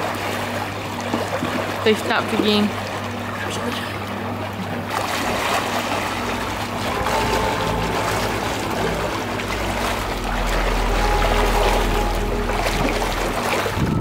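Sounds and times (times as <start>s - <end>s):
swimmer splashing: 0.0s - 13.9s
churning water jets: 0.0s - 14.0s
low pump hum: 0.0s - 14.0s.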